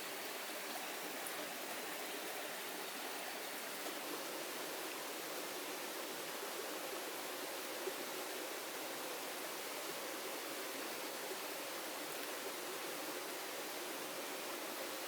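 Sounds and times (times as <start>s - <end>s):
heavy rain in forest: 0.0s - 15.0s.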